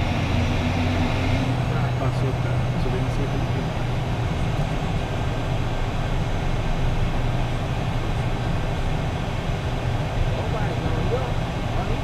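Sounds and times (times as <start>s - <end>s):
jet engines humming and hissing: 0.0s - 12.0s.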